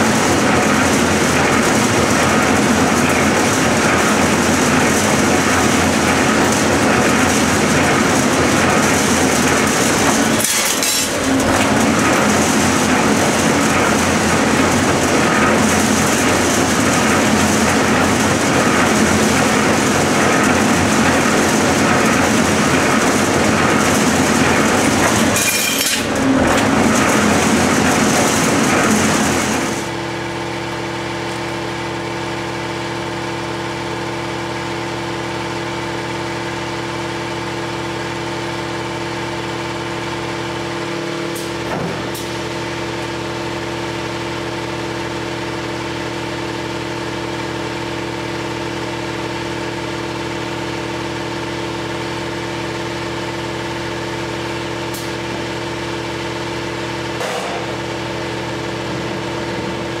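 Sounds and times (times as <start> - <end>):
shop machinery droning: 0.0 - 60.0.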